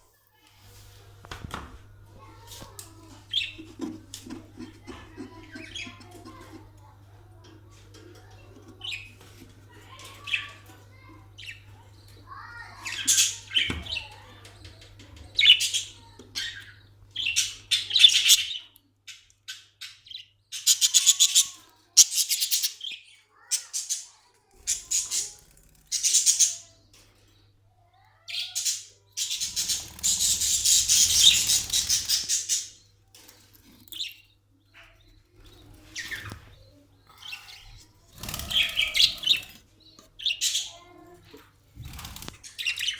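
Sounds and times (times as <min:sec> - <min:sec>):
budgerigars chirping and chattering: 0:02.2 - 0:42.9.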